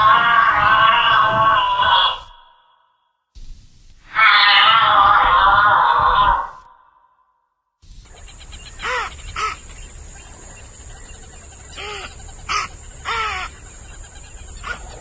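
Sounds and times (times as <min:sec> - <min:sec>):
background hiss: 0:00.0 - 0:02.8, 0:03.4 - 0:06.7, 0:07.8 - 0:15.0
bird calling: 0:00.0 - 0:07.0, 0:07.8 - 0:15.0.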